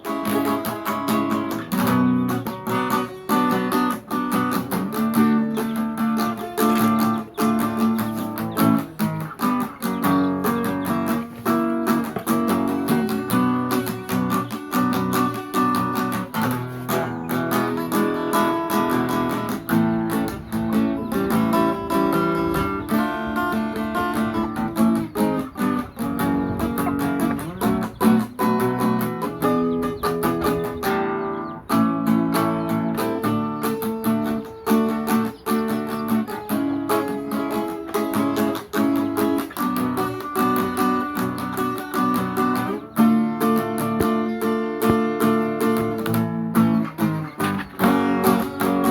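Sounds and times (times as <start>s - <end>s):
acoustic guitar melody: 0.0s - 48.9s.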